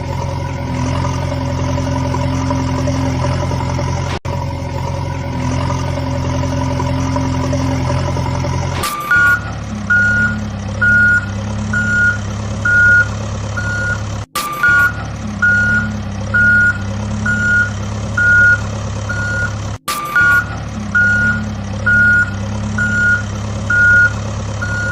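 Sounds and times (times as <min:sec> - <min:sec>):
engine drone: 0:00.0 - 0:24.9
truck reversing alarm beeping: 0:00.2 - 0:24.9.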